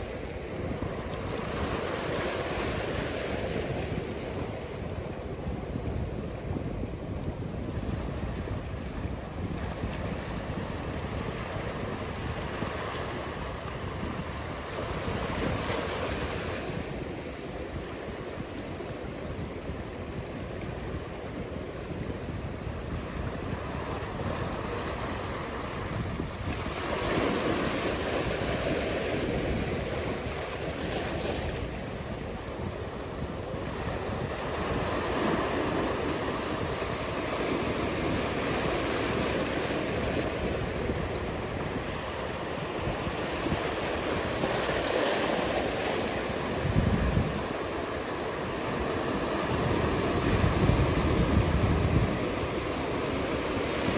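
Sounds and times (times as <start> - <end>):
waves breaking: 0.0 - 53.9.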